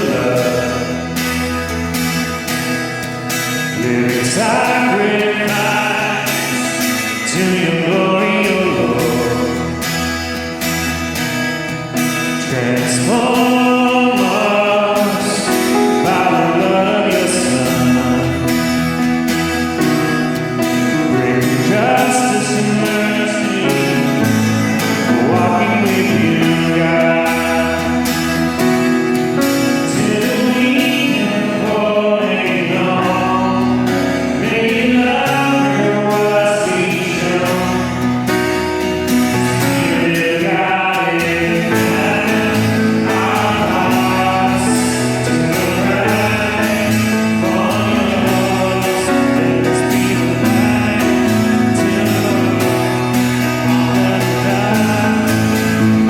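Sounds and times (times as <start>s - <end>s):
instrumental ensemble playing chords: 0.0s - 56.0s
voices singing: 0.0s - 56.0s.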